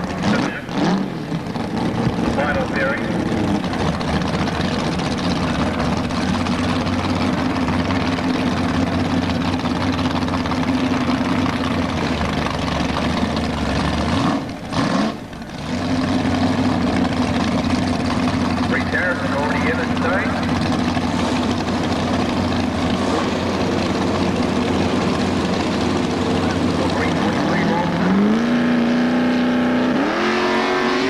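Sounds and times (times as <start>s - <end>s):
racing car engine idling: 0.0s - 30.0s.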